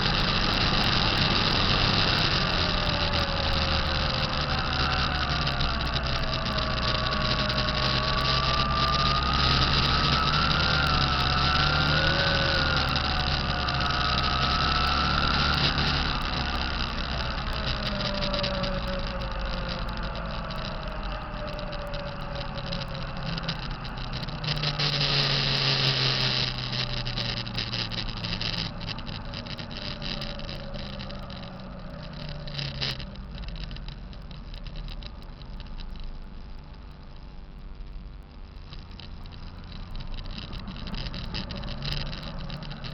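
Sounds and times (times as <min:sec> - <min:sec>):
diesel truck engine hum: 0:00.0 - 0:42.9
turbocharger whine: 0:00.0 - 0:42.9.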